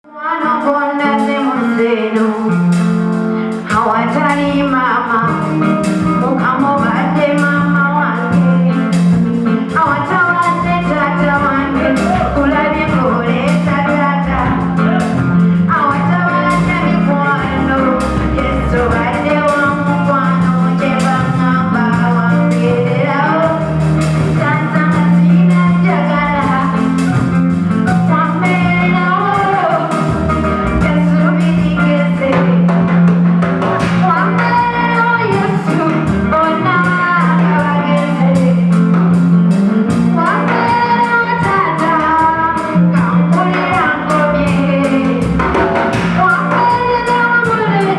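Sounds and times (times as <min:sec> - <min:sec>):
person singing: 0:00.1 - 0:32.9, 0:33.8 - 0:39.0, 0:39.6 - 0:47.9
bass line: 0:00.2 - 0:47.9
steady drum beat: 0:02.2 - 0:47.9.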